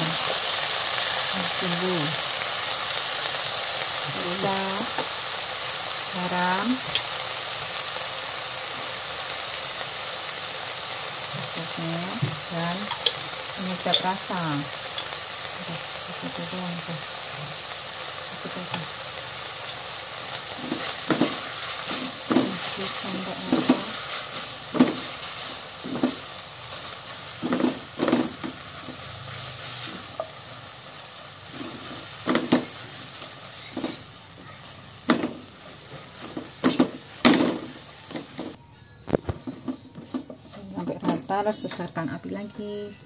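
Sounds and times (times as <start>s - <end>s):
noodles sizzling in a wok: 0.0s - 38.6s.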